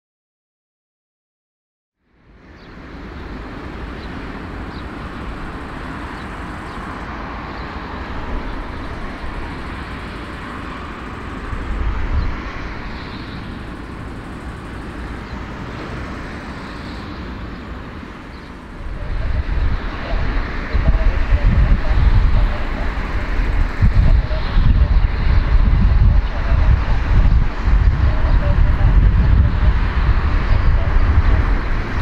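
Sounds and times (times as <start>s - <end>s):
jet engines rumbling: 2.1s - 32.0s.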